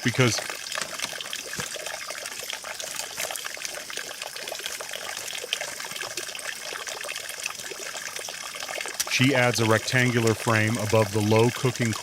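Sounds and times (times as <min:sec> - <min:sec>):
water trickling and babbling: 0:00.0 - 0:12.0.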